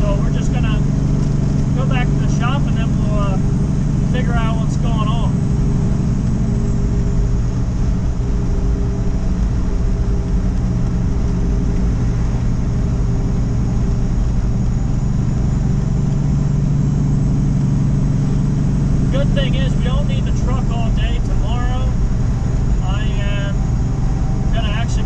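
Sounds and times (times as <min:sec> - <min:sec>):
diesel truck engine running: 0:00.0 - 0:25.0
road noise: 0:00.0 - 0:25.0.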